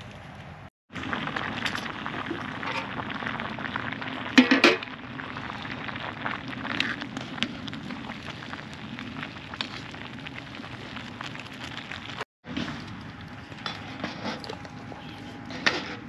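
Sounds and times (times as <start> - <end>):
food crackling and popping: 0.9 - 16.0.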